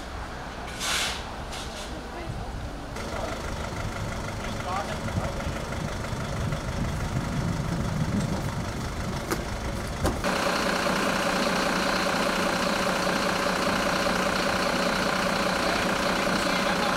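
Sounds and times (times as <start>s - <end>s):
diesel engines idling: 0.0s - 16.9s
fire engine idling hum: 2.9s - 16.9s.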